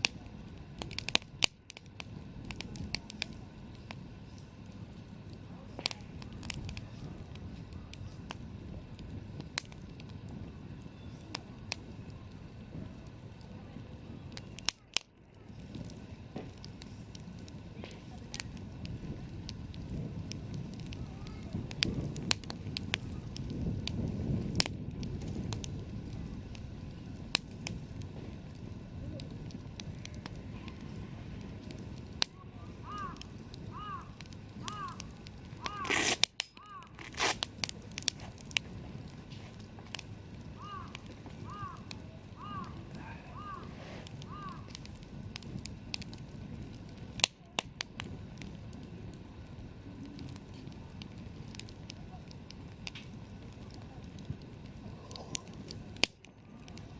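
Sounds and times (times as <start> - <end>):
campfire crackling: 0.0 - 56.9
sharp pops of burning wood: 0.0 - 56.9.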